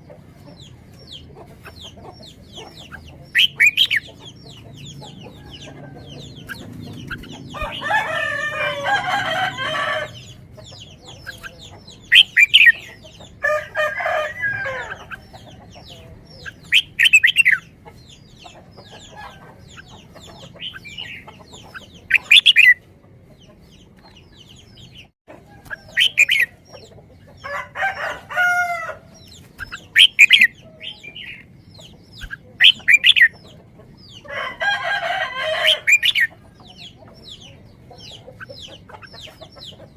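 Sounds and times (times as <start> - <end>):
long bird calls: 0.0 - 22.8, 24.1 - 39.9.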